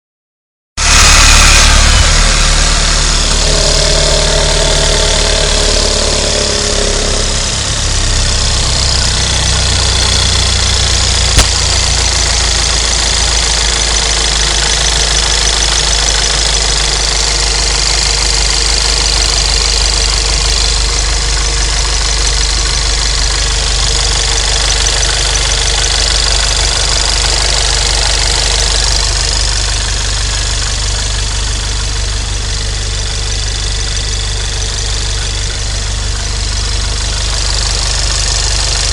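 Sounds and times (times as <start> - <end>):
car engine idling: 0.8 - 38.9.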